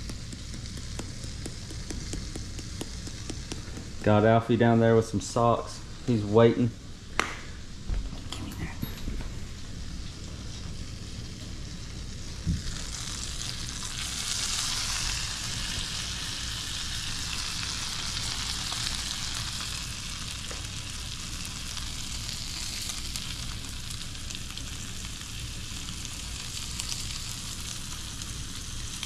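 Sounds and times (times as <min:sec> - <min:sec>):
fish fillets sizzling in butter: 0:00.0 - 0:04.3, 0:09.8 - 0:29.0.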